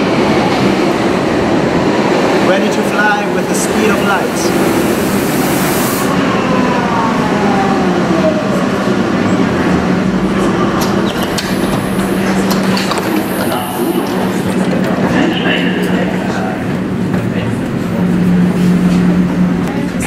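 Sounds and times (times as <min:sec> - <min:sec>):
subway train braking to a stop: 0:00.0 - 0:20.0.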